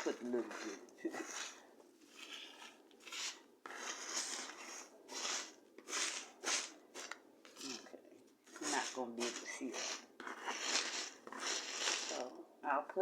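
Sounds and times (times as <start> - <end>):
paper shred rustling: 0.0 - 7.8, 8.4 - 12.3.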